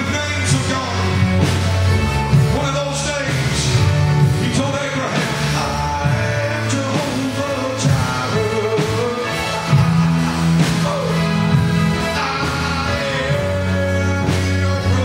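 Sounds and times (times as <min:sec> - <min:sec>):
drum kit with cymbals: 0:00.0 - 0:15.0
low bass notes: 0:00.0 - 0:15.0
man singing: 0:00.0 - 0:15.0.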